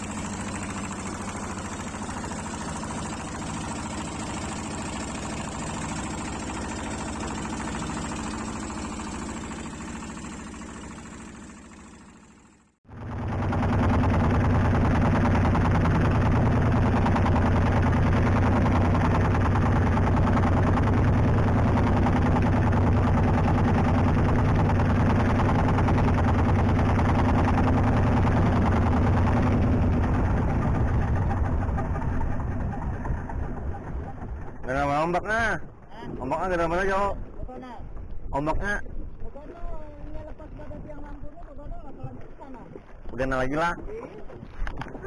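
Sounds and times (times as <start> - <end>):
boat motor chugging: 0.0 - 45.0.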